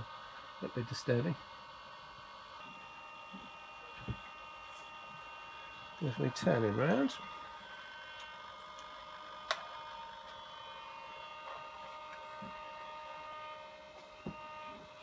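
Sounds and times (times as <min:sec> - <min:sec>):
faint electrical whine of servos: 0:00.0 - 0:15.0.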